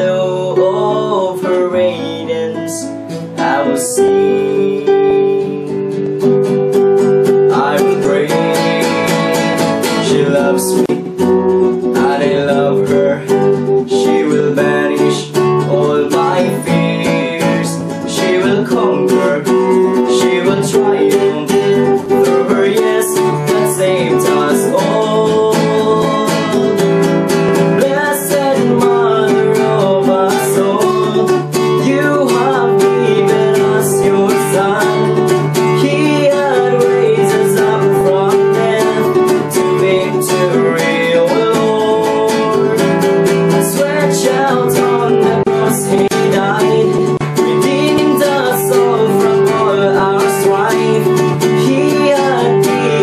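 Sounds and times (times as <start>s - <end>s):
acoustic guitar strumming: 0.0s - 53.0s
man singing: 0.0s - 53.0s.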